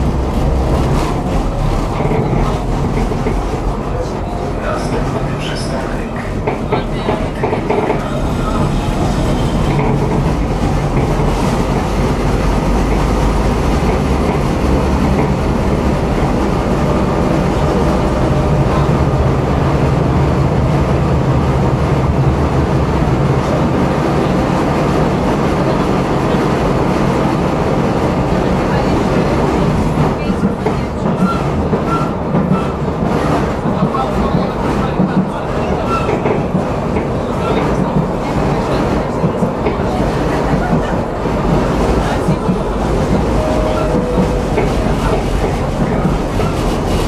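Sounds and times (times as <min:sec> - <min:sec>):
tram wheels rumbling on rails: 0:00.0 - 0:47.0.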